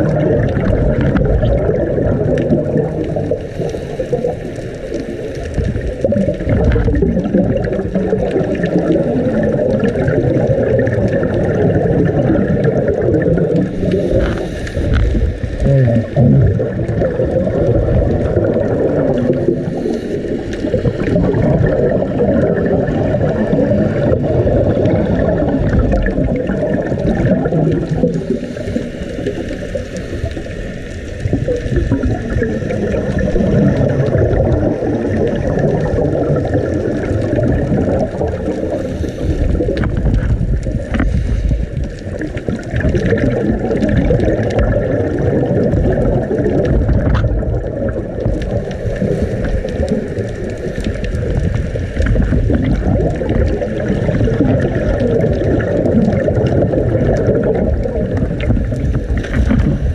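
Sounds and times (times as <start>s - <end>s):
underwater surging water: 0.0s - 59.9s.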